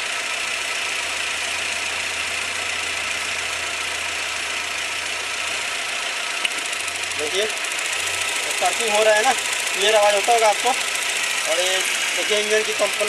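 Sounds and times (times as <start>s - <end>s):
car engine idling with misfire: 0.0s - 13.0s.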